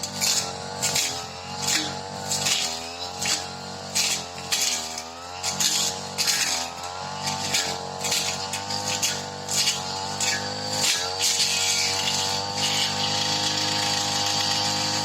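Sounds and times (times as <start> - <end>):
brush cutter engine running: 0.0 - 15.0
grass swishing: 0.0 - 15.0.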